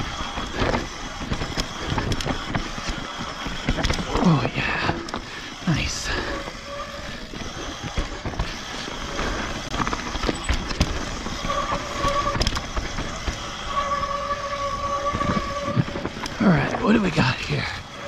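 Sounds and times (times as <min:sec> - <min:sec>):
bike rattling over rocks: 0:00.0 - 0:18.0
bike tyres on loose dirt: 0:00.0 - 0:18.0
steady whine: 0:00.0 - 0:18.0.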